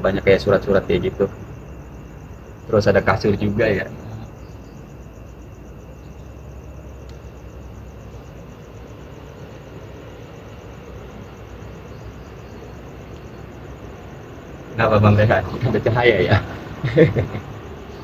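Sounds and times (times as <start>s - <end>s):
distant traffic hum: 0.0s - 18.0s
insects chirping: 0.0s - 18.0s.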